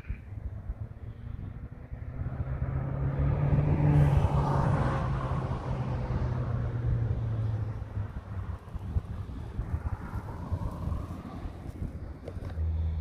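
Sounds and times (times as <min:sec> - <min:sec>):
car engine hum: 0:00.0 - 0:13.0
car tyre noise: 0:00.0 - 0:13.0.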